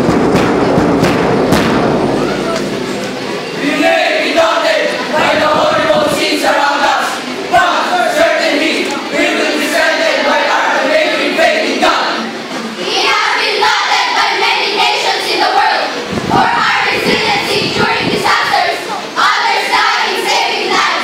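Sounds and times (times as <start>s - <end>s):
children chanting in unison: 3.5s - 21.0s.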